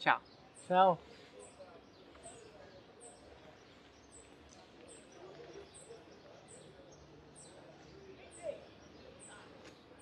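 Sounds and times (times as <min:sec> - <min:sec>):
bird chirping: 0:00.0 - 0:10.0
faint outdoor ambience: 0:00.0 - 0:10.0.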